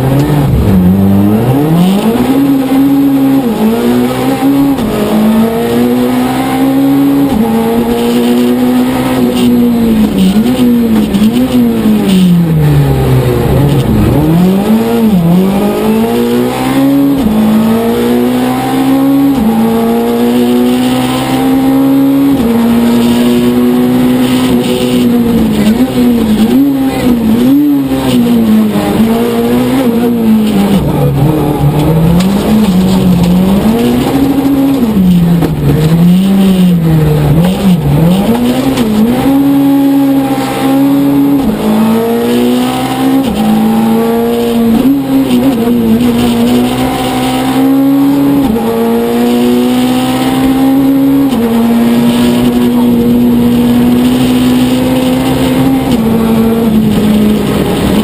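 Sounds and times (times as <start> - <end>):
rally car engine from inside cabin: 0.0 - 58.0.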